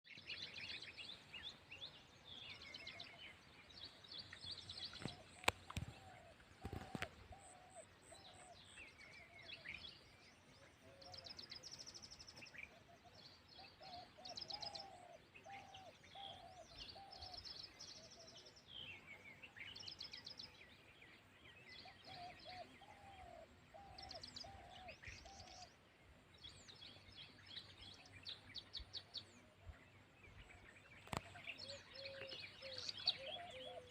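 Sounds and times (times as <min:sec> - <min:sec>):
birds chirping and singing: 0:00.1 - 0:33.9.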